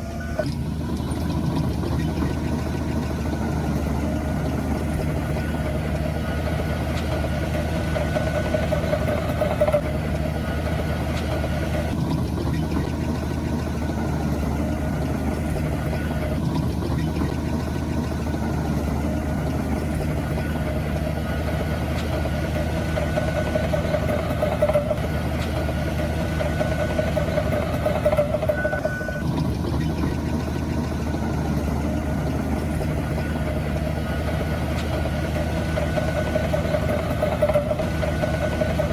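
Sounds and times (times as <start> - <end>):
diesel engine running: 0.0 - 38.9
high-pitched machine whine: 0.0 - 38.9.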